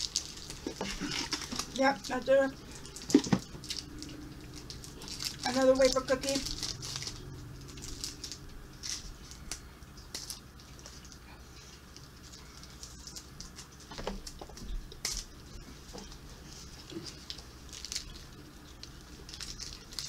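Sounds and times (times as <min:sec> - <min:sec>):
wrapper crinkling: 0:00.0 - 0:11.2, 0:11.8 - 0:20.0.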